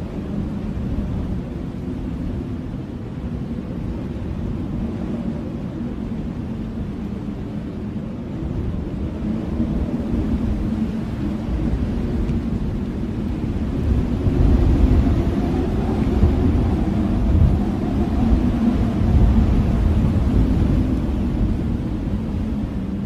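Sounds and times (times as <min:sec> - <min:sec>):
blizzard wind rushing: 0:00.0 - 0:23.0.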